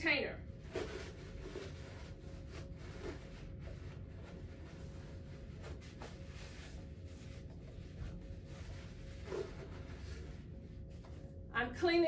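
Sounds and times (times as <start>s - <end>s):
low room hum: 0.0s - 12.0s
paper towel rubbing plastic: 0.6s - 11.3s.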